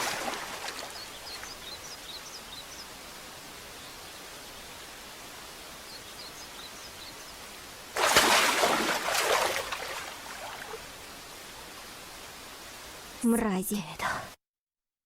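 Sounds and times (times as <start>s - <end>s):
steady outdoor hiss: 0.0s - 14.4s.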